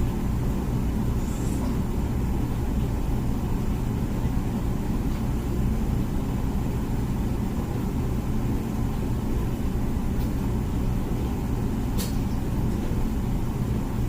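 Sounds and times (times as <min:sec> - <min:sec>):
dishwasher hum: 0:00.0 - 0:14.0.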